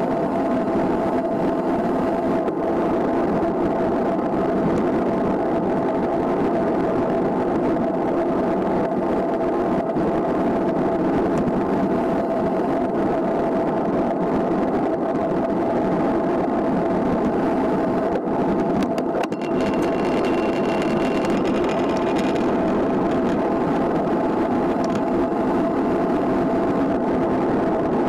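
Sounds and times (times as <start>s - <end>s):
bike tyre hum on asphalt: 0.0s - 28.0s
wind rush: 0.0s - 28.0s.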